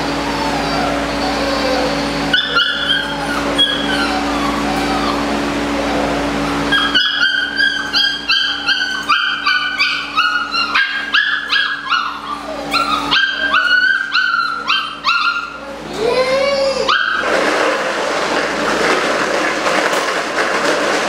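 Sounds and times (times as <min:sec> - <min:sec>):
puppies yipping: 0:00.0 - 0:18.0.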